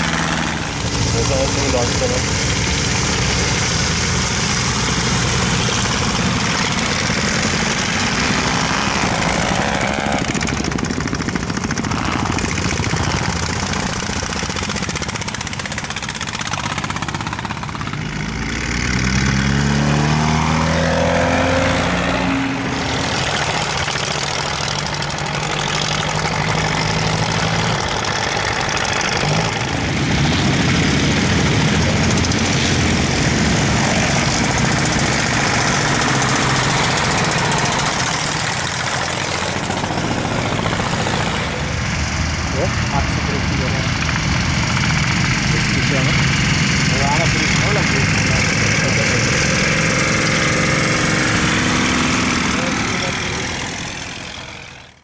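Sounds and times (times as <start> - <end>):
tractor engines running hard: 0.0 - 55.0.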